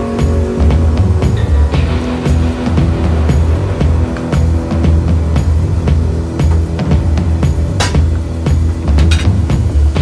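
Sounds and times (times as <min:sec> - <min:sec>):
music with strong bass and beat: 0:00.0 - 0:10.0.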